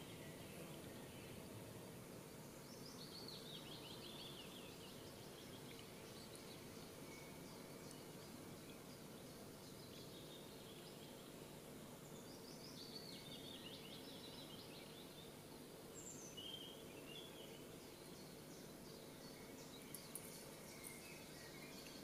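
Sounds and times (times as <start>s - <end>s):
faint songbird song: 0.0s - 22.0s
steady low background noise: 0.0s - 22.0s.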